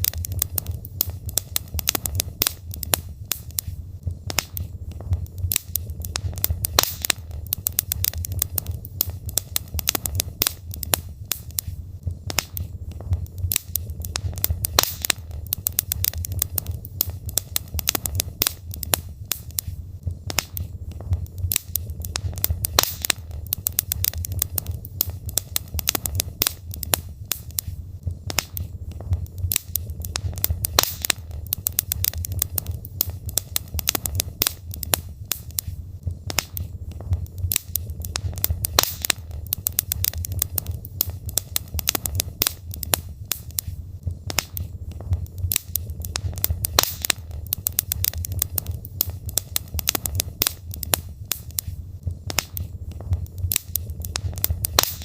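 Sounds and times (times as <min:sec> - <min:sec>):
logs crackling and popping in fire: 0:00.0 - 0:55.0
low rumble of fire: 0:00.0 - 0:55.0.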